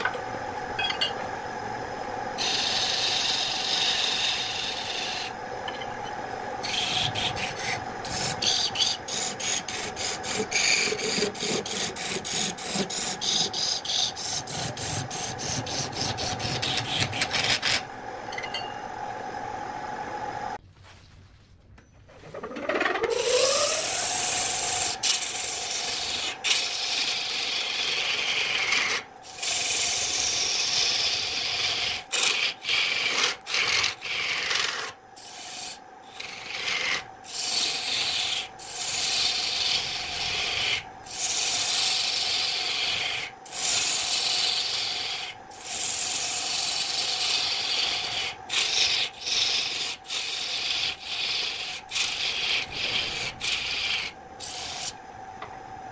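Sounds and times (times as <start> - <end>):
wood lathe humming: 1.2 - 18.4, 22.3 - 55.5
turning tool scraping wood: 2.4 - 5.3, 6.6 - 17.9, 22.1 - 55.0.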